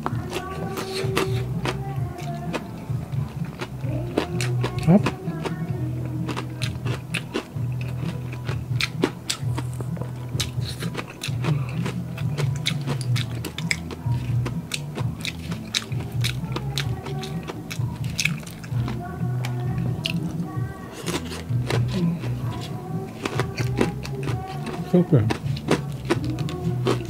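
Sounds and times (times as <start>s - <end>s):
background music: 0.0s - 27.0s
chewing and crunching: 0.0s - 27.0s.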